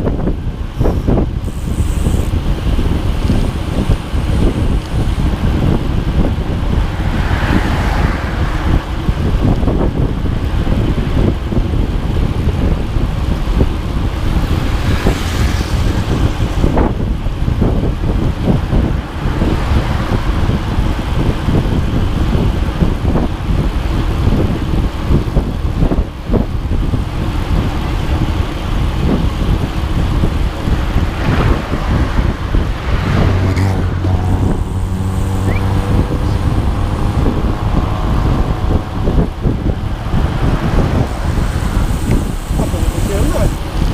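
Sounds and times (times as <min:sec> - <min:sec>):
steady engine hum: 0:00.0 - 0:43.9
vehicle rumble with rattling: 0:00.0 - 0:43.9.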